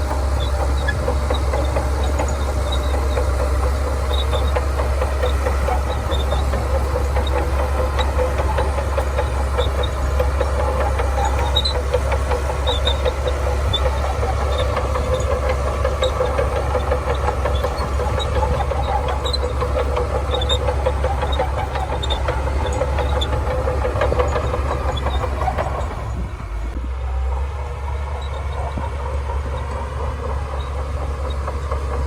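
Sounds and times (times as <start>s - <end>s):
metallic track clatter: 0.0s - 26.7s, 27.4s - 32.0s
bulldozer diesel engine: 0.0s - 32.0s.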